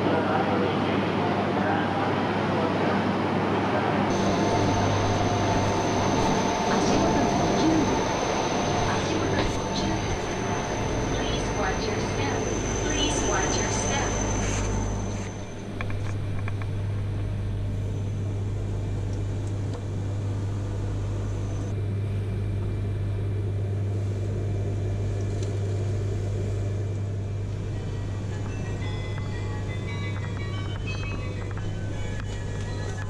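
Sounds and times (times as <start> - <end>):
train cabin rumble with low hum: 0.0 - 33.0.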